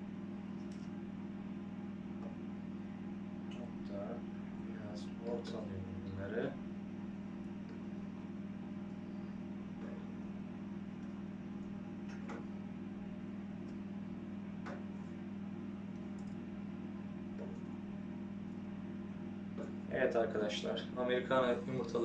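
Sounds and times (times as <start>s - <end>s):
egg incubator humming: 0.0s - 22.0s.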